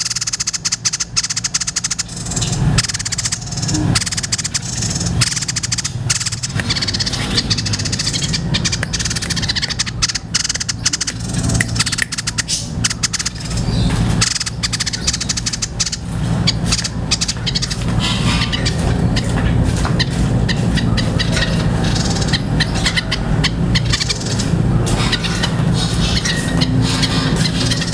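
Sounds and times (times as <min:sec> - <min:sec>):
bird rattling chatter: 0:00.0 - 0:27.9
steady low hum: 0:00.0 - 0:27.9.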